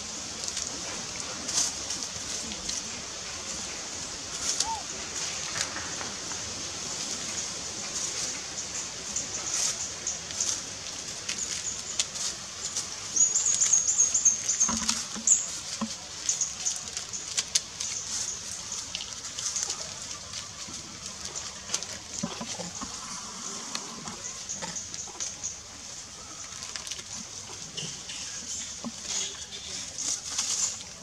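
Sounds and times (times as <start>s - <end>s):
leaves and twigs rustling and snapping: 0.0s - 31.0s.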